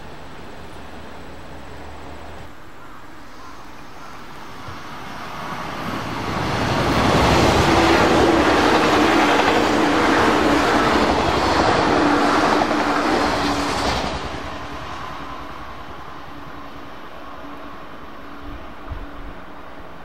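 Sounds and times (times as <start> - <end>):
electric train passing at speed: 0.0 - 20.0.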